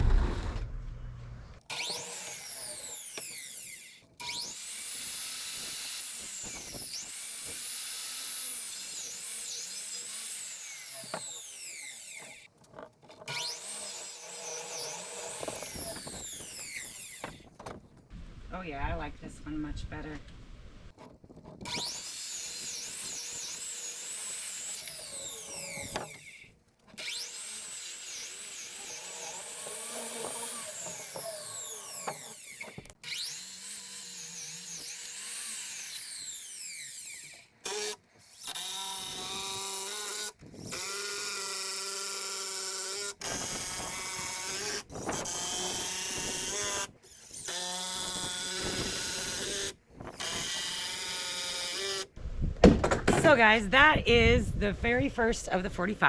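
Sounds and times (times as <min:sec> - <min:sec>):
power drill whining: 0:01.6 - 0:17.7, 0:21.6 - 0:52.2.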